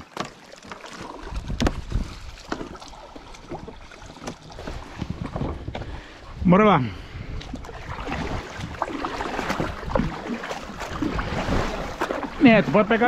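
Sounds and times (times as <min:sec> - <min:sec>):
water lapping against kayak hull: 0:00.0 - 0:13.0
wind rumbling on microphone: 0:01.1 - 0:13.0.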